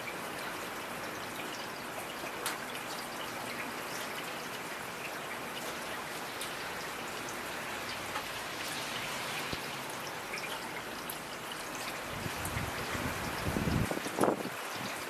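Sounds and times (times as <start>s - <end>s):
raindrops ticking: 0.0s - 15.0s
steady rainfall: 0.0s - 15.0s.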